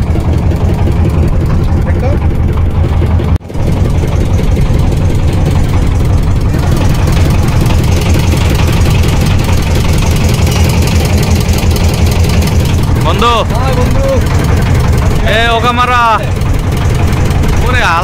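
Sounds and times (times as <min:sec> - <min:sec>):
boat engine throbbing: 0:00.0 - 0:18.0.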